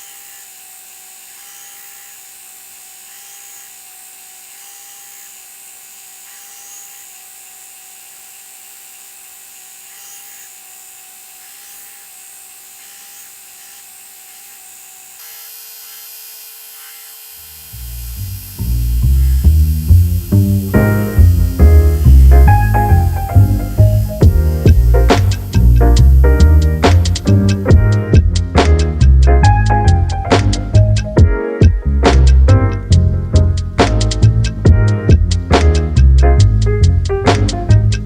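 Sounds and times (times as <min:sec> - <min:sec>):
power tool grinding knife: 0:00.0 - 0:31.2, 0:32.1 - 0:38.0.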